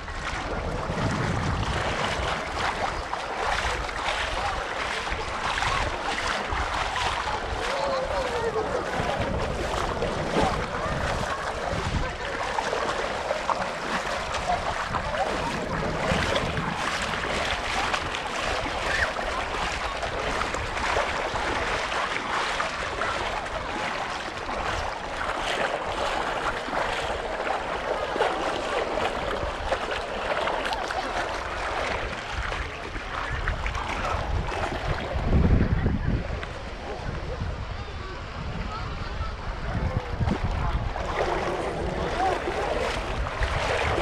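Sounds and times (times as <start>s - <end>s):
wind gusting on microphone: 0.0s - 27.3s, 31.6s - 44.0s
murmur of distant voices: 0.0s - 44.0s
surf washing on sandy shore: 0.0s - 44.0s.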